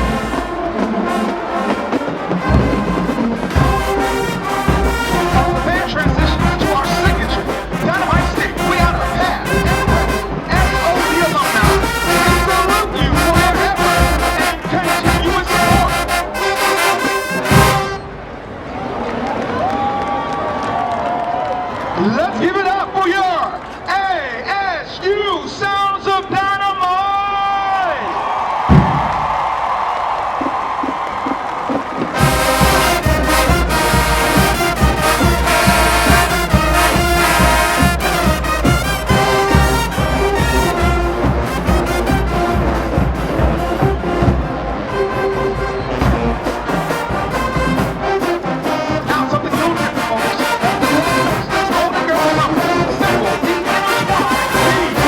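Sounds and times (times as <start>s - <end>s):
marching band brass and drums: 0.0s - 20.3s, 28.2s - 55.0s
crowd noise: 0.0s - 55.0s.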